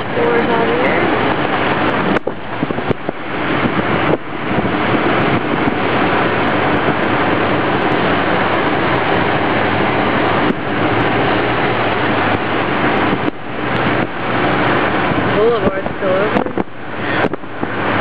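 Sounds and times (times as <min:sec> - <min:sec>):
car wind and road noise: 0:00.0 - 0:18.0
wind buffeting microphone: 0:00.0 - 0:18.0.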